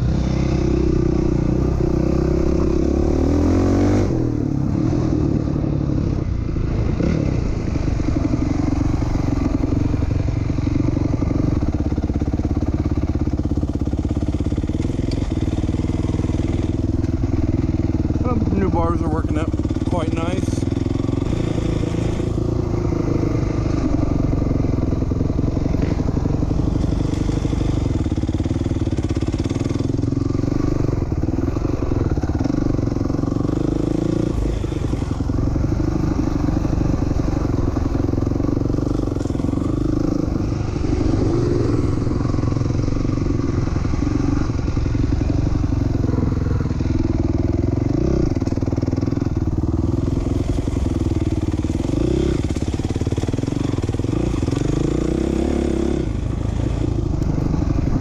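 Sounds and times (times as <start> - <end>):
motocross bike engine revving: 0.0 - 5.8, 13.4 - 58.0.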